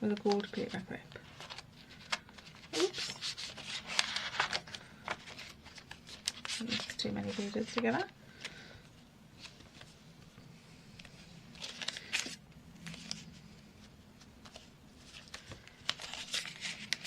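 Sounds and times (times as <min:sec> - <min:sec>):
faint steady hum: 0:00.0 - 0:17.0
paper rustling: 0:00.1 - 0:08.6, 0:11.0 - 0:17.0.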